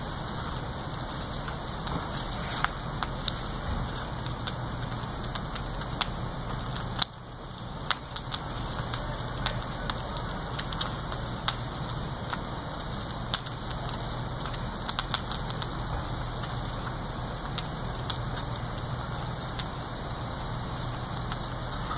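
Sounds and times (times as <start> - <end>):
house fire crackling: 0.0 - 21.9
steady rushing fire noise: 0.0 - 21.9.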